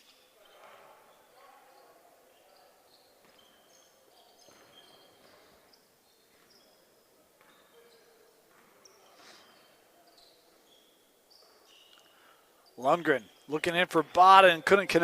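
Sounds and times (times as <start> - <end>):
shoes squeaking on court: 0.0 - 14.2
faint background noise: 0.0 - 15.0.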